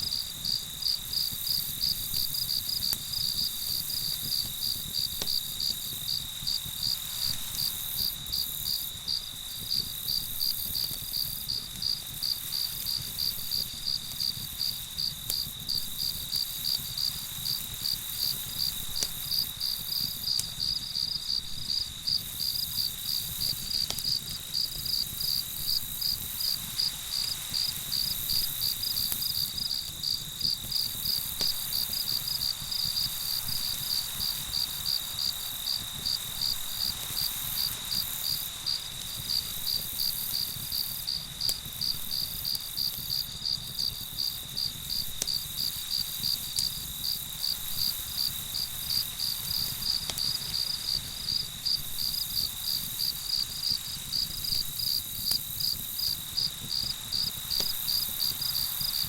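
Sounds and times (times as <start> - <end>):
campfire crackles: 0.0 - 59.0
crickets chirping: 0.0 - 59.0.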